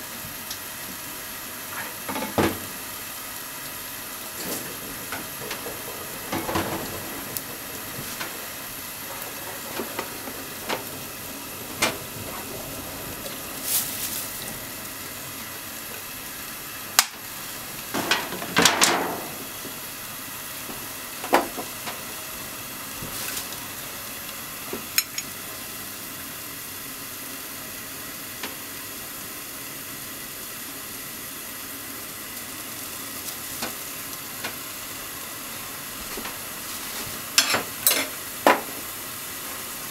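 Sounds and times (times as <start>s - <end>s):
potatoes and onions sizzling in pan: 0.0s - 39.9s.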